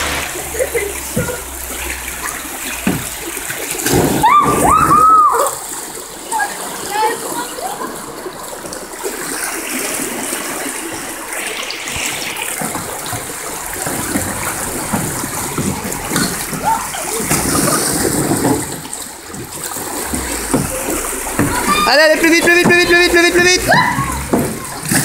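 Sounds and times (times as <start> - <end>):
river water rushing: 0.0 - 25.0
water splashing around kayak: 0.0 - 25.0.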